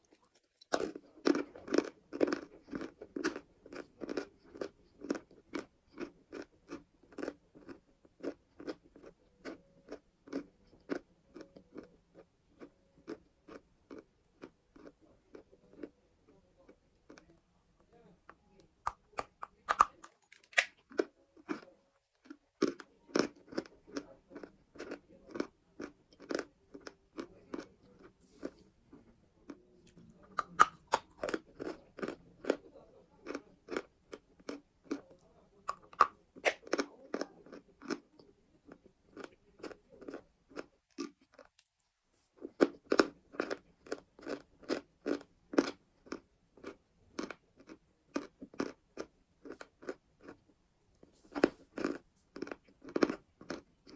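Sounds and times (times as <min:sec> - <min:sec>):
crunching and chewing chalk: 0:00.0 - 0:53.9.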